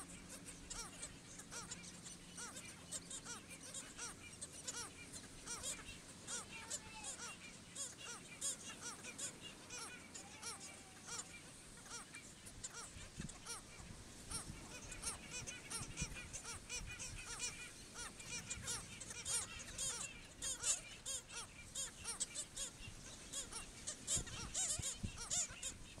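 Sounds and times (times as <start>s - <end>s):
seabirds barking calls: 0.0s - 26.0s.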